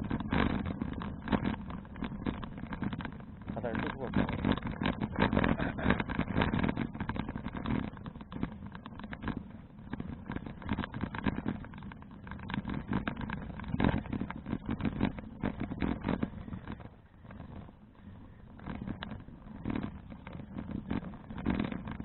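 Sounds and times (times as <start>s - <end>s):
bicycle rattling road noise: 0.0s - 22.0s
wind buffeting microphone: 0.0s - 22.0s.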